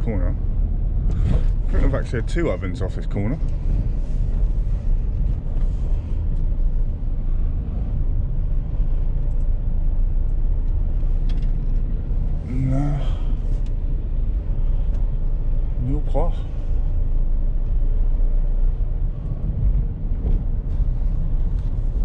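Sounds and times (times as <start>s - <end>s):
van engine and road noise: 0.0s - 22.0s.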